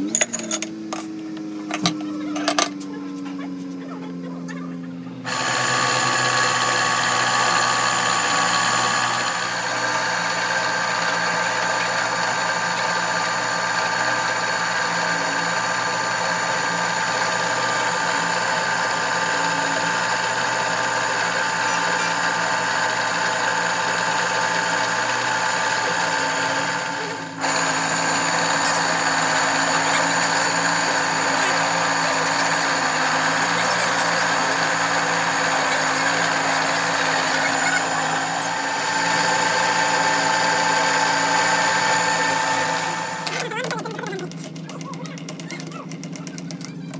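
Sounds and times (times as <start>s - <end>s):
machine tool whining: 0.0s - 4.2s, 4.8s - 46.9s.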